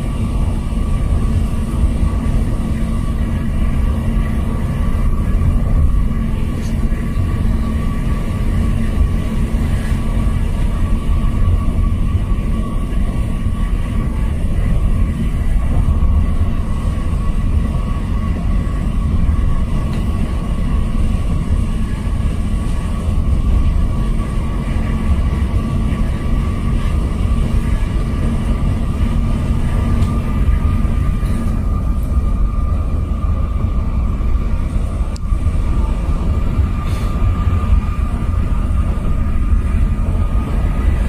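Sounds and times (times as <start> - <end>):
road noise: 0.0 - 41.0
thin steady whine: 0.0 - 41.0
truck engine rumble: 0.0 - 41.0.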